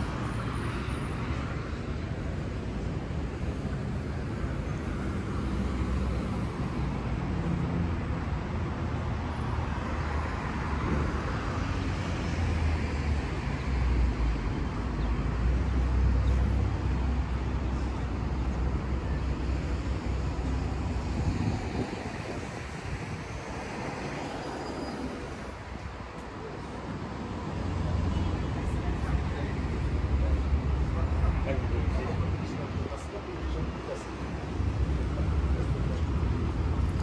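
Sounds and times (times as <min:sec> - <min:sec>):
passing cars rumbling: 0:00.0 - 0:37.0.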